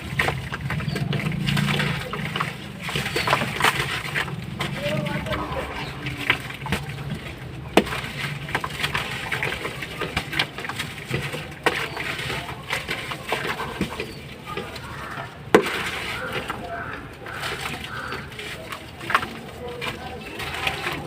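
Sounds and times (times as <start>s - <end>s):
slabs crumbling and fizzing in water: 0.0s - 21.0s.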